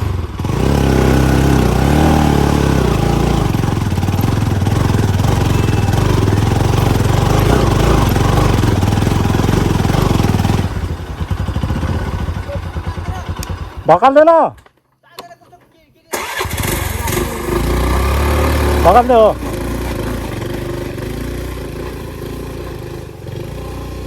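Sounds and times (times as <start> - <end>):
motorcycle engine revving: 0.0 - 14.5, 16.2 - 24.0.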